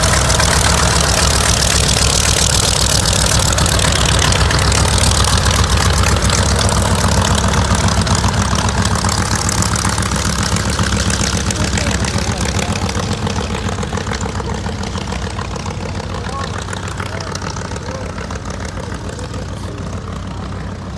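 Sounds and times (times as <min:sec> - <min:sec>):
radial aircraft engine idling: 0:00.0 - 0:20.9.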